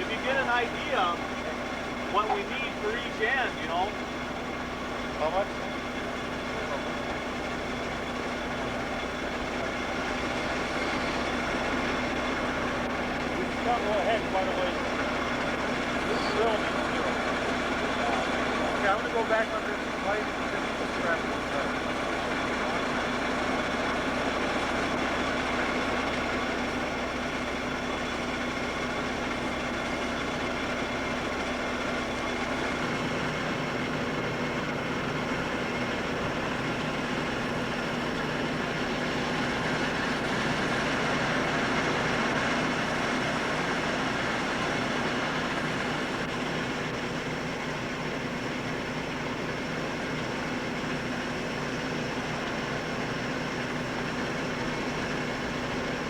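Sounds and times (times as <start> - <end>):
heavy machinery engine drone: 0.0 - 56.0.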